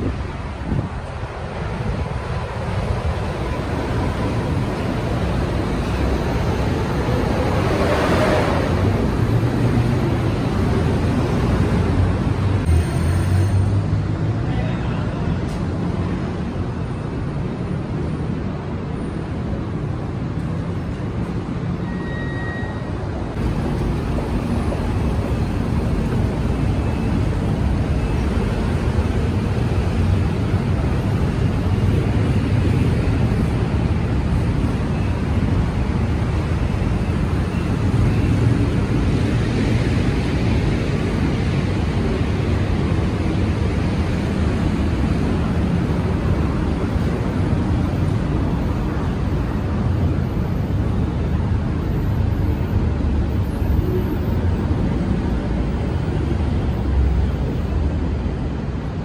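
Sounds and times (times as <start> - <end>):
city background noise: 0.0 - 59.0
road traffic rumble: 0.0 - 59.0.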